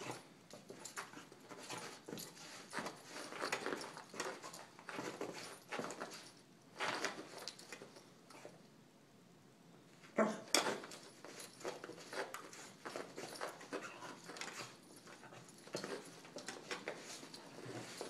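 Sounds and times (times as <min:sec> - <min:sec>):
dog scuffs and clicks: 0:00.0 - 0:08.6, 0:10.6 - 0:18.0.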